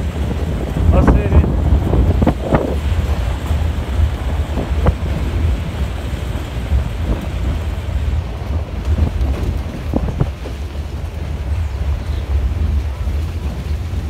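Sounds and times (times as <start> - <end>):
car rumbling on dirt road: 0.0 - 14.0
wind buffeting microphone: 0.0 - 14.0.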